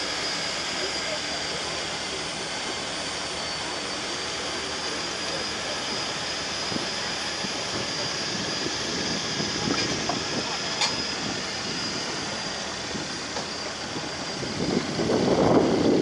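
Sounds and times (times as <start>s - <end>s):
steady high whine: 0.0s - 16.0s.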